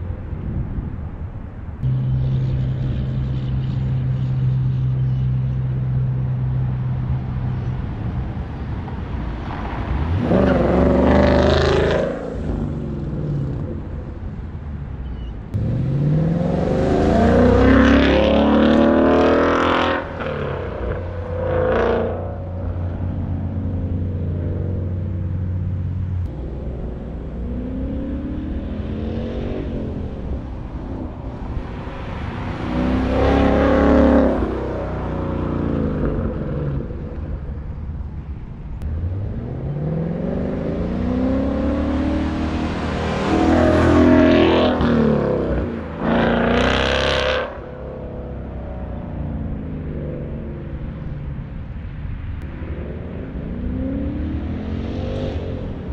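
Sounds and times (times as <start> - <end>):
car engine accelerating: 1.8 - 55.9.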